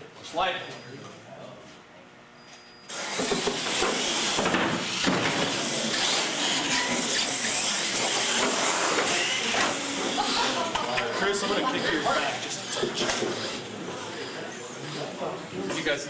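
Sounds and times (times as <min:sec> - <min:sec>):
radio-controlled trucks racing: 0:02.9 - 0:16.0.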